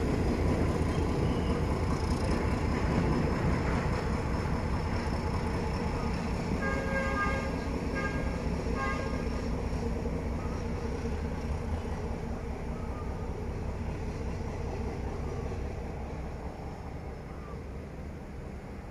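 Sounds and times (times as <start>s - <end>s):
freight train rumble: 0.0s - 18.9s.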